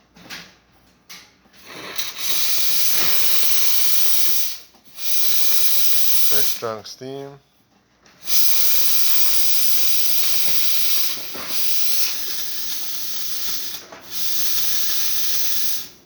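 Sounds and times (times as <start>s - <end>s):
steam wand hissing: 1.6s - 6.8s, 8.2s - 16.0s.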